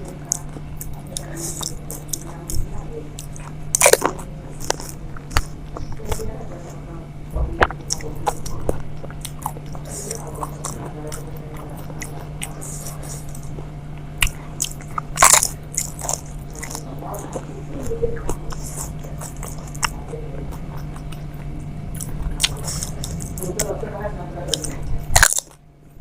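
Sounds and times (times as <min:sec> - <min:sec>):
person chewing crisp shells: 0:00.0 - 0:06.8, 0:07.6 - 0:23.8, 0:24.5 - 0:25.7.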